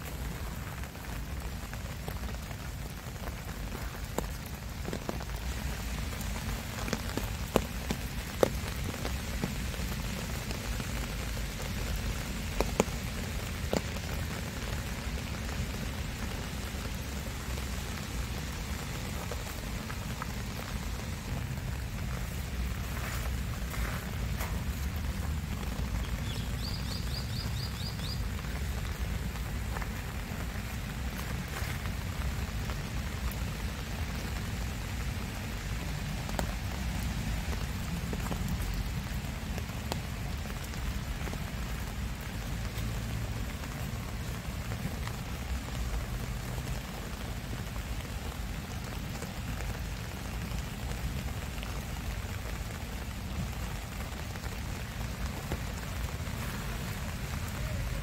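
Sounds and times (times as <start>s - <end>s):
rain on foliage: 0.0s - 58.0s.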